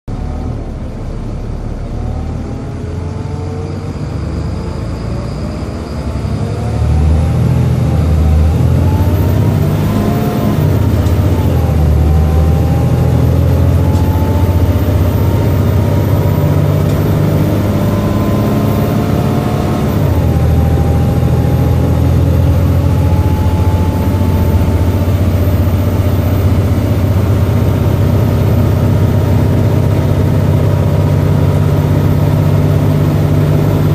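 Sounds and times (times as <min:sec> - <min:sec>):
bus engine rumbling: 0:00.0 - 0:33.9
engine whine climbing in pitch: 0:00.0 - 0:33.9.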